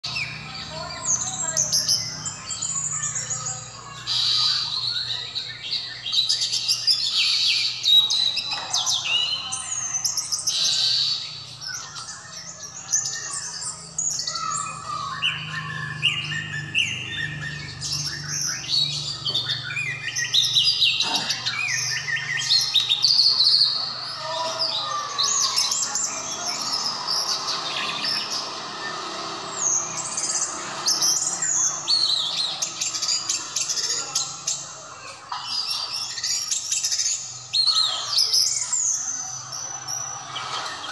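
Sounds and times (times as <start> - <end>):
thrush singing: 7.6 - 40.9.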